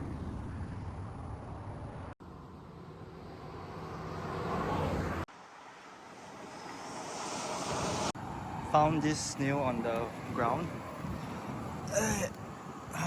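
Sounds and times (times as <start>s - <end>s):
road traffic passing: 2.1s - 13.0s.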